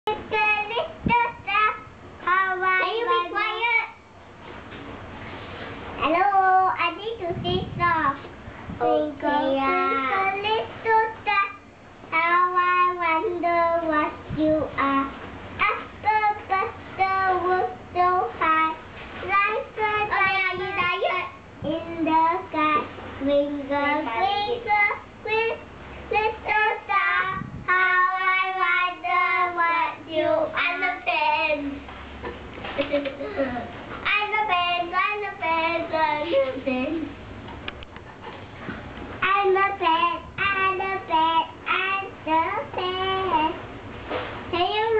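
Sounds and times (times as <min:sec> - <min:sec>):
girl singing unaccompanied: 0:00.1 - 0:04.2, 0:06.0 - 0:31.9, 0:32.8 - 0:37.2, 0:39.2 - 0:44.9.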